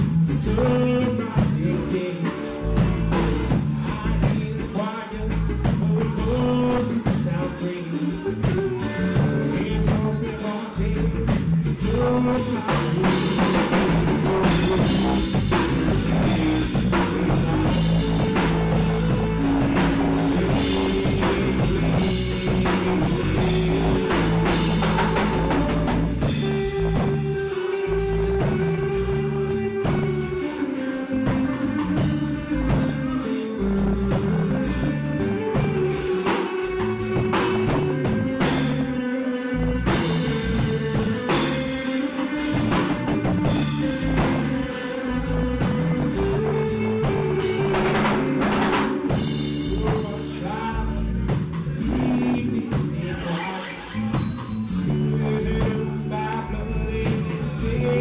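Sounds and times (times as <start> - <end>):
drum kit: 0.0 - 39.0, 39.6 - 58.0
bass guitar: 0.0 - 58.0
electric guitar: 0.0 - 58.0.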